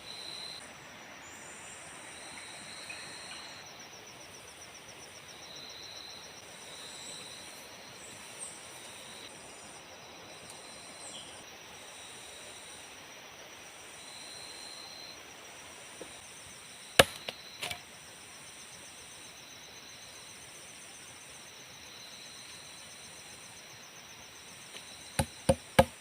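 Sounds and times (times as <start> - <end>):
insects trilling: 1.2 - 26.0.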